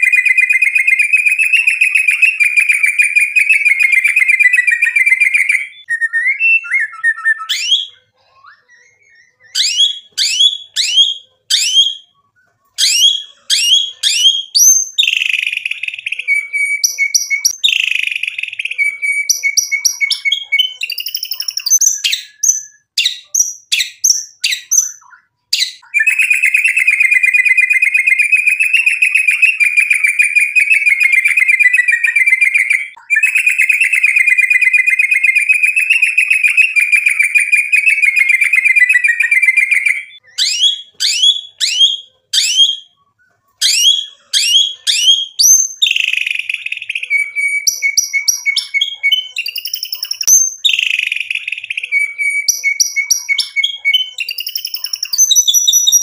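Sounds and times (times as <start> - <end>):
bird trilling: 0.0 - 12.2, 12.8 - 43.0, 43.6 - 56.0
songbird singing: 0.0 - 56.0.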